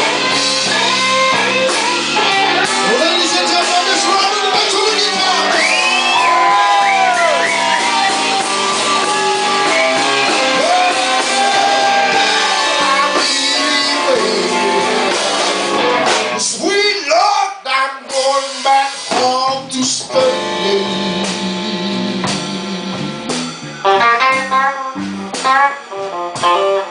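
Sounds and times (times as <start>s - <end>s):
electric guitar bending notes: 0.0s - 16.8s, 19.2s - 26.9s
live blues band playing: 0.0s - 26.9s.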